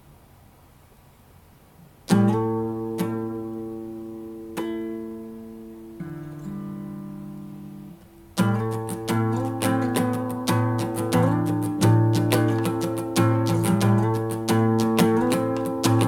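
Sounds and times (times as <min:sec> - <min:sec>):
strummed string instrument chords: 0:02.1 - 0:16.0.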